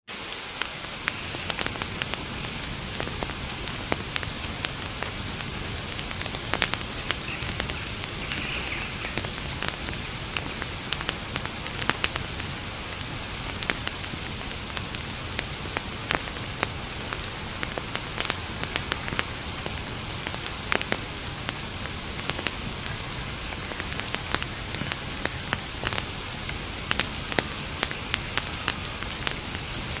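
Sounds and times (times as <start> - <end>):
campfire crackling and popping: 0.1 - 30.0.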